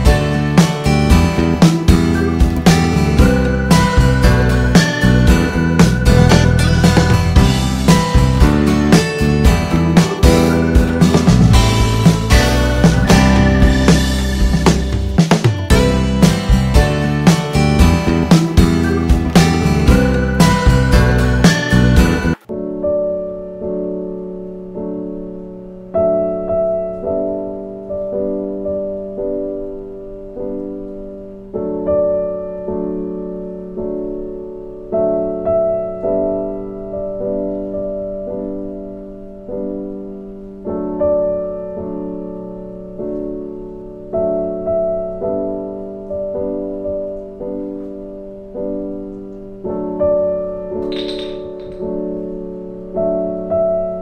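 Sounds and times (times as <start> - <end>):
slow gentle piano music: 0.0 - 54.0.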